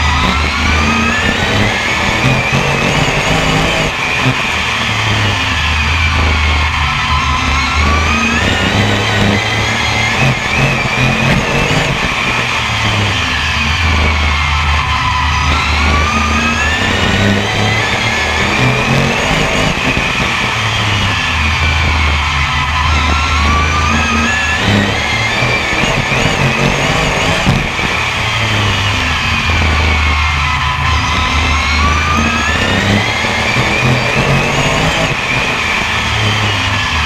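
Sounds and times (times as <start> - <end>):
racing car engine: 0.0 - 37.0.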